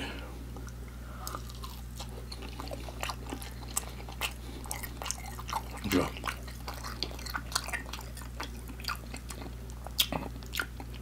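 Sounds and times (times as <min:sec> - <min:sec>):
person chewing: 0:00.5 - 0:11.0.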